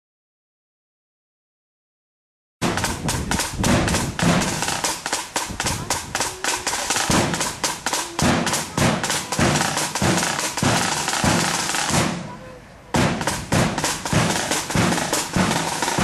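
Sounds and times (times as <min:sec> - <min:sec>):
deep drum beats: 0:02.6 - 0:16.0
side drum rolls: 0:02.6 - 0:16.0.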